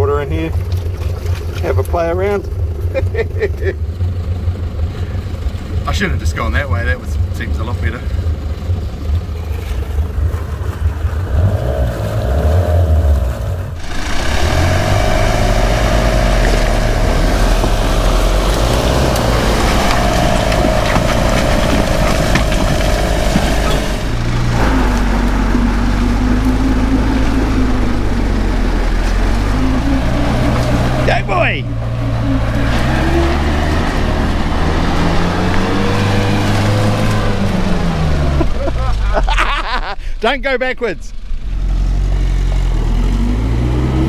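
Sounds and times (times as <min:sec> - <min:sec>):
engine running under load: 0:00.0 - 0:40.2
engine whine: 0:00.5 - 0:39.4.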